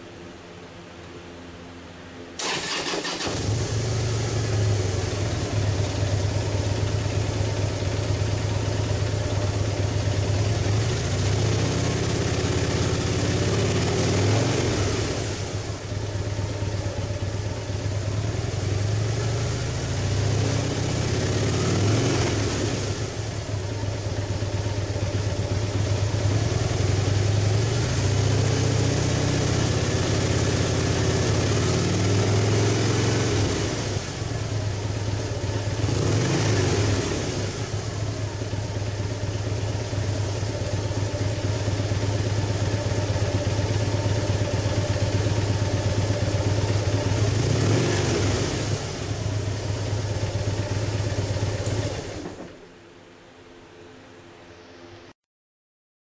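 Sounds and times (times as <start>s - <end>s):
motorcycle engine idling: 2.4s - 52.6s.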